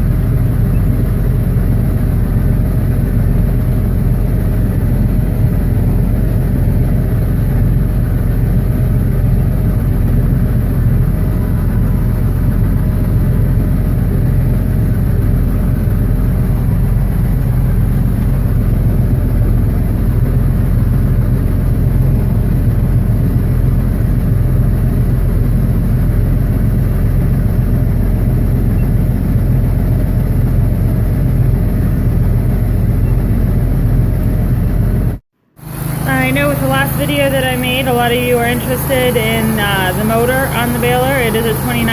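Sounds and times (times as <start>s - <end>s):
tractor and baler engine drone: 0.0s - 41.9s.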